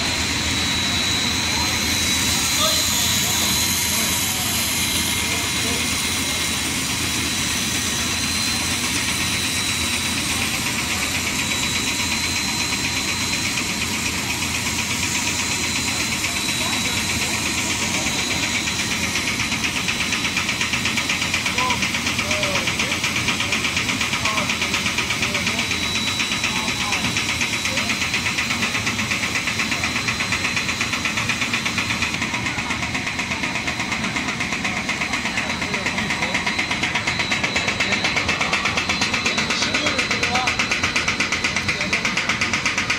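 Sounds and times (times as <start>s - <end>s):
extruder machine running: 0.0s - 42.9s
fast even pulsing: 0.0s - 42.9s.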